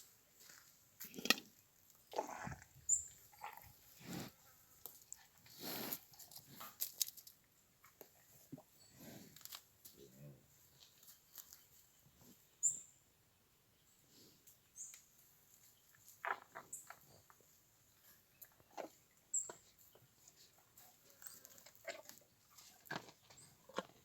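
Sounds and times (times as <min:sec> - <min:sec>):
faint animal sounds: 0:00.4 - 0:24.0.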